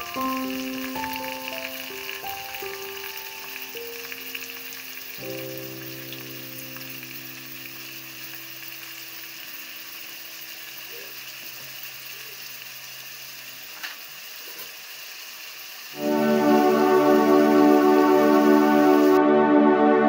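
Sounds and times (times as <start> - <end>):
vegetables sizzling in a pot: 0.0 - 19.2.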